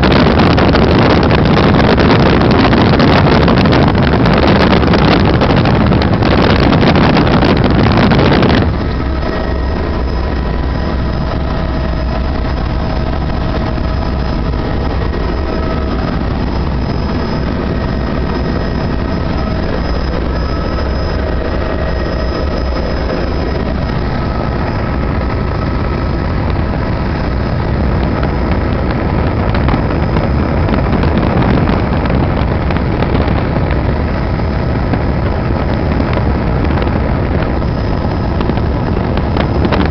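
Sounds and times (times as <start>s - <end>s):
helicopter engine and rotor drone: 0.0s - 39.9s
rushing wind noise: 0.0s - 39.9s.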